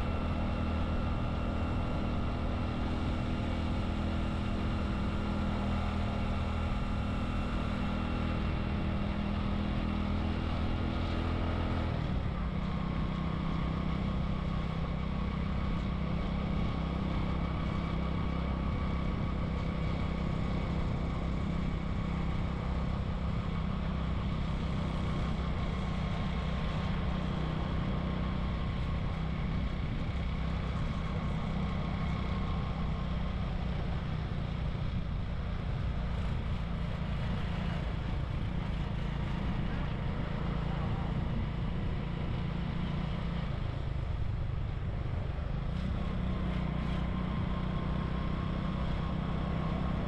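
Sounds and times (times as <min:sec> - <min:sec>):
wind and road noise: 0:00.0 - 0:50.0.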